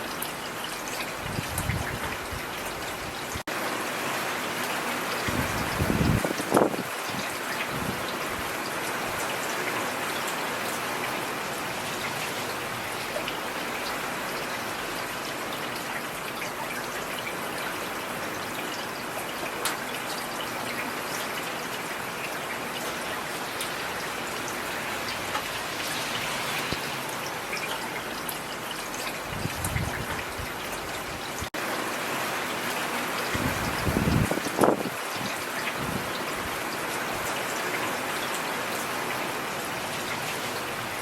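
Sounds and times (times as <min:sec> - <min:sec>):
steady rain on a street: 0:00.0 - 0:41.0.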